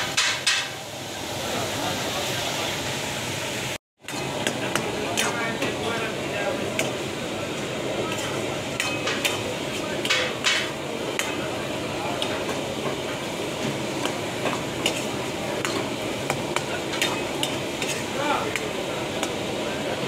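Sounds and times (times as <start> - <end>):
shrimp and tomatoes sizzling: 0.0 - 20.0.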